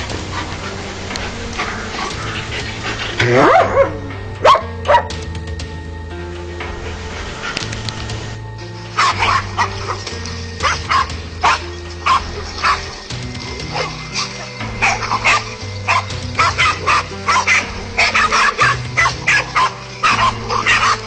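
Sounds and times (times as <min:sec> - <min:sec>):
dogs barking: 0:00.0 - 0:05.3, 0:06.6 - 0:21.0
background music: 0:00.0 - 0:21.0.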